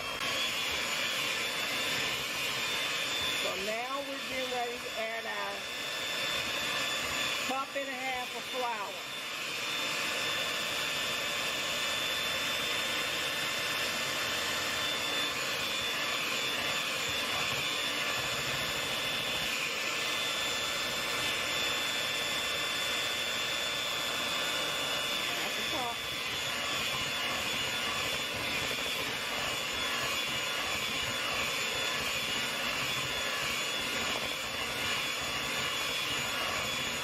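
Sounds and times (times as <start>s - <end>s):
electric hand mixer whining: 0.0s - 37.0s.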